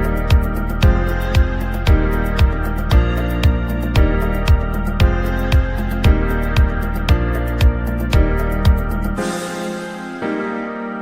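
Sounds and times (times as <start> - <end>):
held chords: 0.0 - 11.0.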